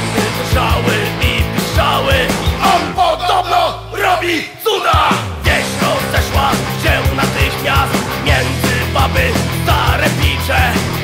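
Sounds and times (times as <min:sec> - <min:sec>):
punk rock band playing: 0:00.0 - 0:04.1, 0:04.8 - 0:11.0.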